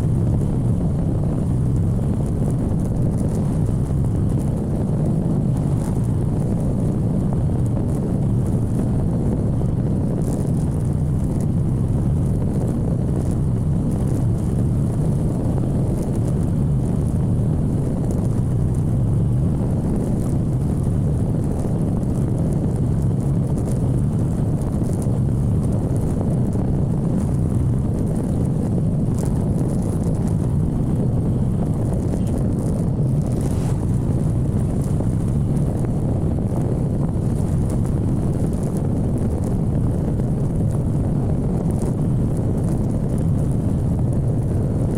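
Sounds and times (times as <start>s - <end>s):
motorcycle engine running: 0.0s - 44.9s
wind on microphone: 0.0s - 44.9s.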